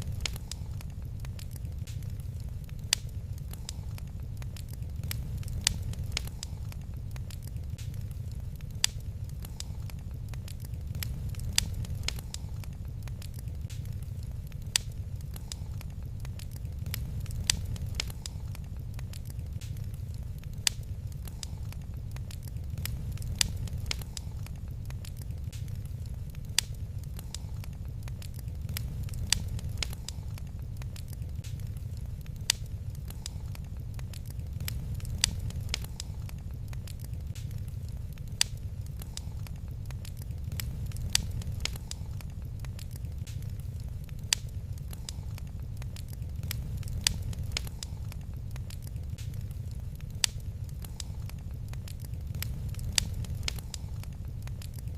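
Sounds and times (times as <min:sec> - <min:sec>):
low rumble: 0:00.0 - 0:54.9
wood fire crackling: 0:00.0 - 0:54.9.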